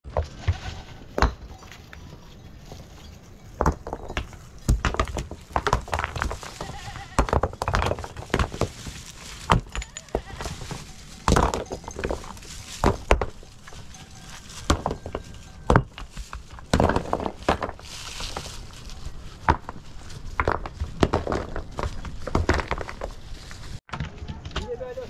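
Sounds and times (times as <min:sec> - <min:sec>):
stones knocking and clattering: 0:03.5 - 0:24.8.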